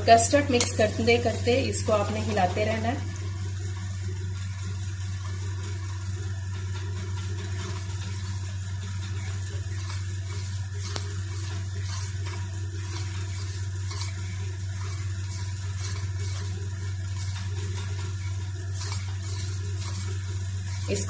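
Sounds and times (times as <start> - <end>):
steady low hum: 0.0 - 21.0
spoon stirring liquid in steel pot: 0.2 - 21.0.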